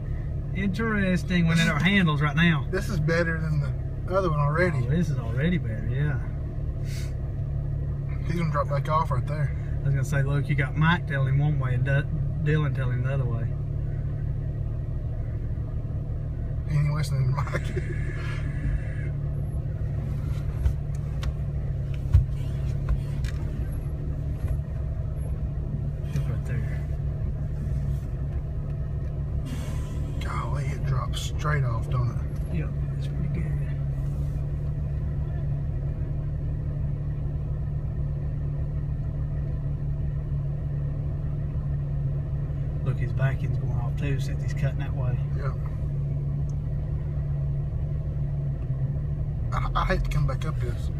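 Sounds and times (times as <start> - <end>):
vehicle engine running at low revs: 0.0 - 50.9.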